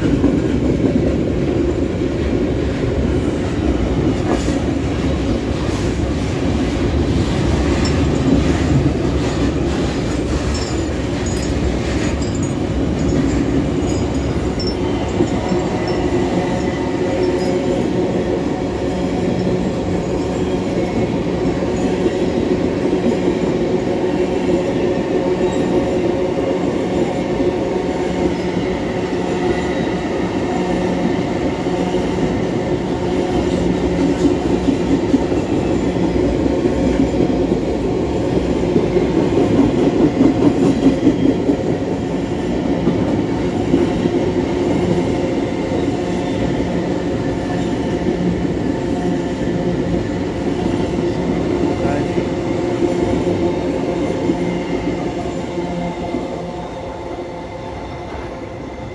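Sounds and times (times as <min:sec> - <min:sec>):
freight train wheels rumbling on rail: 0:00.0 - 0:58.9.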